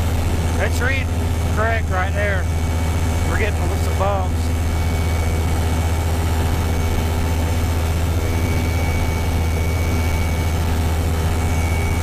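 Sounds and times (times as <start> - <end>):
ultralight engine and propeller drone: 0.0 - 12.0.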